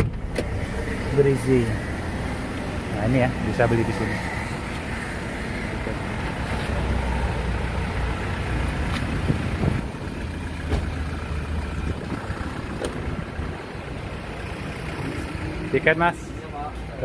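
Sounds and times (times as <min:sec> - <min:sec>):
street traffic: 0:00.0 - 0:17.0
vehicle engine idling: 0:00.0 - 0:17.0.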